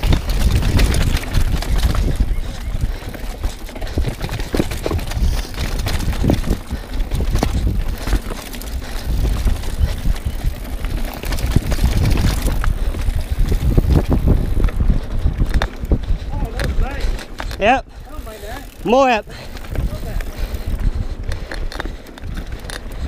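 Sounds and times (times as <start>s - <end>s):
bike knocking and rattling: 0.0s - 23.0s
tyres rumbling on rock and dirt: 0.0s - 23.0s
wind buffeting microphone: 0.0s - 23.0s.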